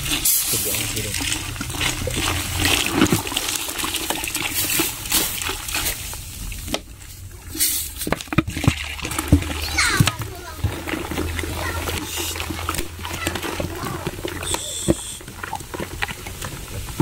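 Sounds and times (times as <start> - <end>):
cola pouring into a plastic tub: 0.0 - 17.0.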